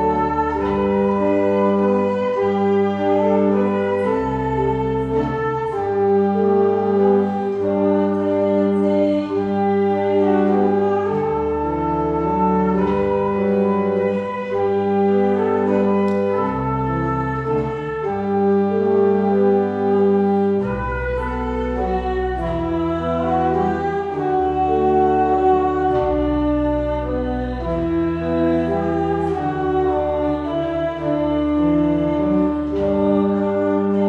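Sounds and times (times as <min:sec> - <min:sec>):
church organ playing chords: 0:00.0 - 0:34.0.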